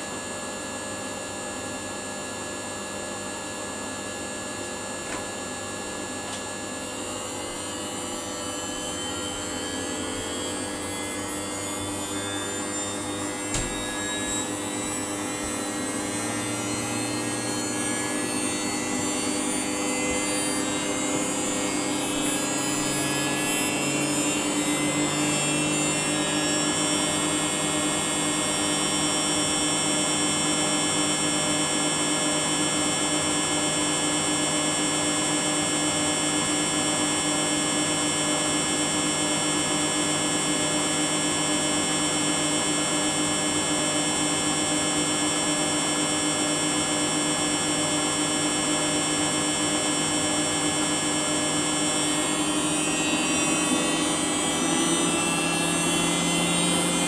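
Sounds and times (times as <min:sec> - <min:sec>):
washing machine spin motor whine: 0:00.0 - 0:57.0.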